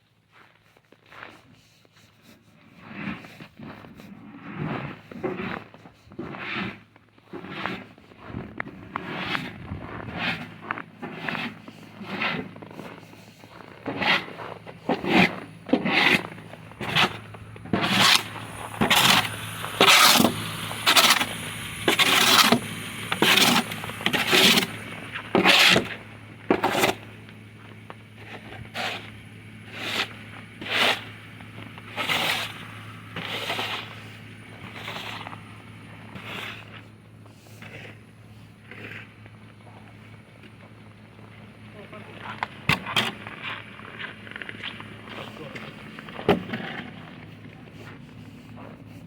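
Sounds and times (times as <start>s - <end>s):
shovel scraping snow: 1.2s - 40.0s, 41.8s - 49.0s
low steady hum: 8.1s - 49.0s.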